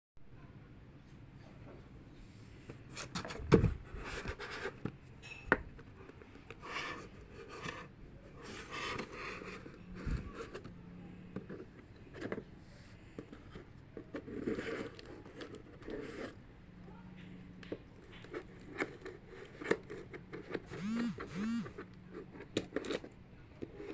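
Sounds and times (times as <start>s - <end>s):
packaging rustling and scraping: 2.4s - 16.4s, 18.0s - 23.9s.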